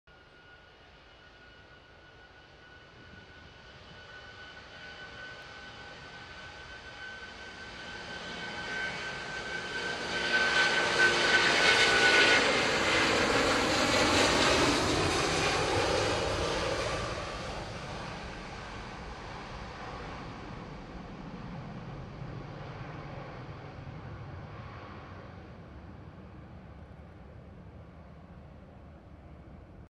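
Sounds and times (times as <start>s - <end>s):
jet engines at takeoff: 0.1s - 29.9s.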